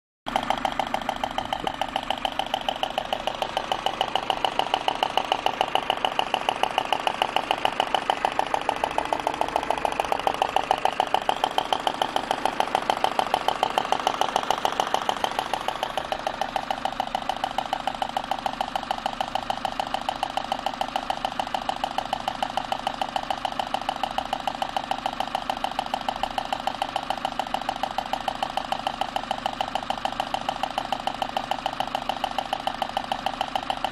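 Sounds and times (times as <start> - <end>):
car engine knocking: 0.3 - 33.9.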